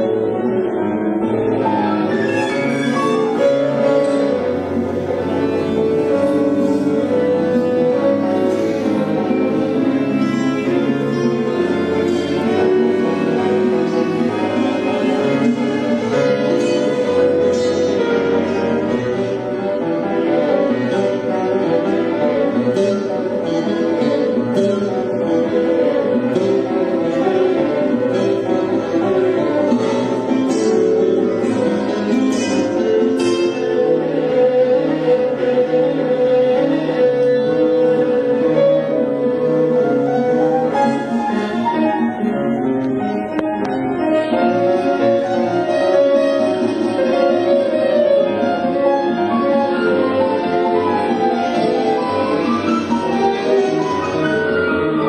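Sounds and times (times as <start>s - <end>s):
classical guitar: 0.0s - 55.0s
piano: 0.0s - 55.0s
violin: 0.0s - 55.0s.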